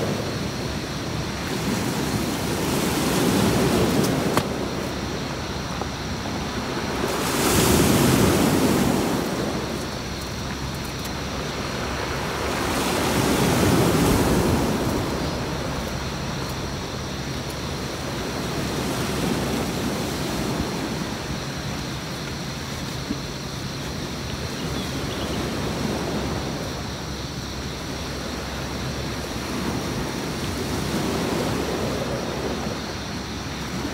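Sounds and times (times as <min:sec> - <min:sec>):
sea waves breaking: 0:00.0 - 0:33.9.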